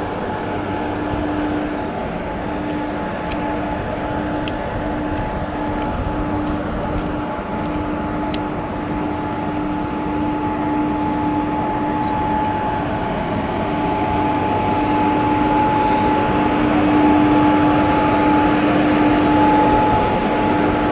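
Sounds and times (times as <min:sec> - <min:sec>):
constant humming tones: 0:00.0 - 0:20.9
locomotive engine rumbling: 0:00.0 - 0:20.9.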